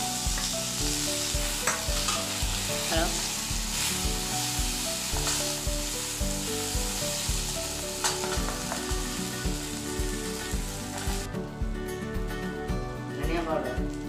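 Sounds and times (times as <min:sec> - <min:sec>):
masala sizzling in oil: 0:00.0 - 0:11.3.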